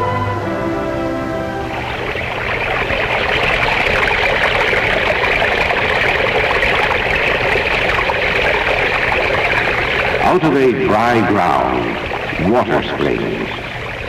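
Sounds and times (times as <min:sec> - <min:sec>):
water trickling over rocks: 0:01.8 - 0:14.0.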